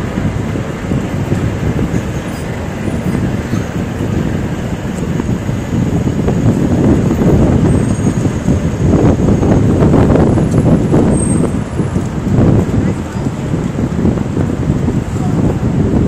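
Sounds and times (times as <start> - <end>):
cars and buses going by: 0.0 - 16.0.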